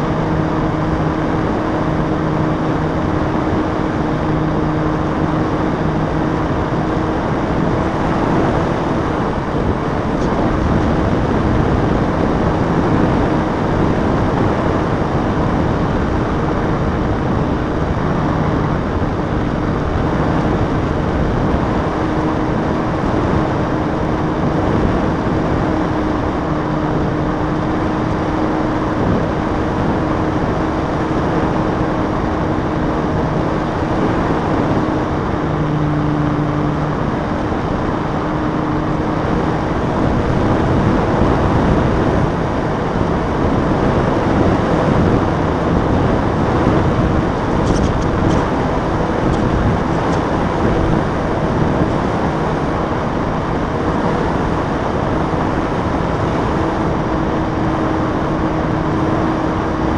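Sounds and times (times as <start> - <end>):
electric motor and propeller humming: 0.0 - 59.9
wind rushing over microphone: 0.0 - 59.9.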